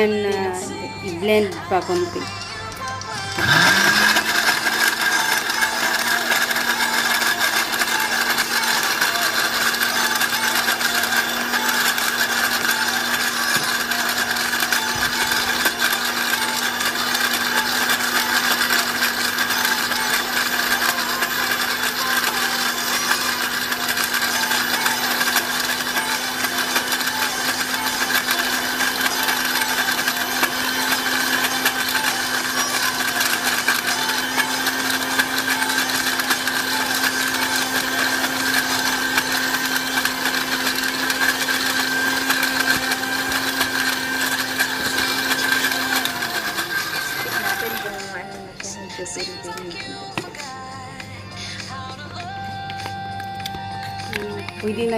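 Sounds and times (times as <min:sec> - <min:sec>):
electric blender running: 0:00.0 - 0:54.9.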